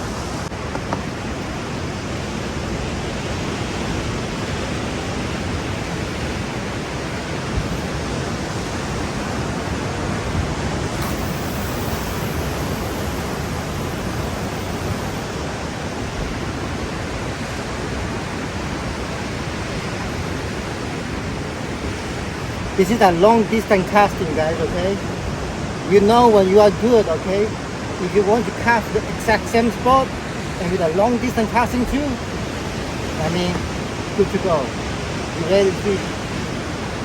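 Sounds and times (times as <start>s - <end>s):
surf washing against rocks: 0.0s - 37.0s.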